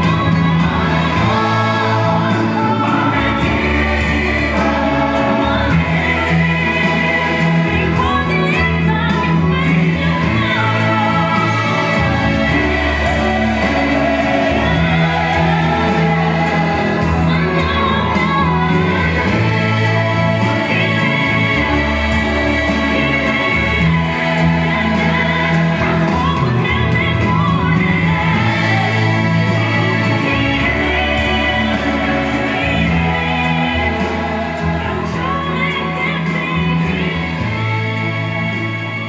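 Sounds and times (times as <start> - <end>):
gospel choir singing: 0.0 - 39.0.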